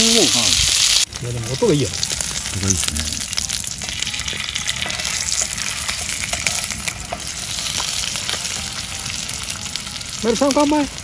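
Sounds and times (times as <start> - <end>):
lamb chops sizzling in a pan: 0.0 - 11.0.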